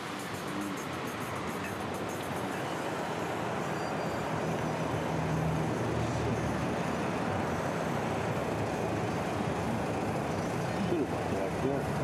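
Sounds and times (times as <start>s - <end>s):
low engine drone: 0.0s - 12.0s
traffic noise: 0.0s - 12.0s.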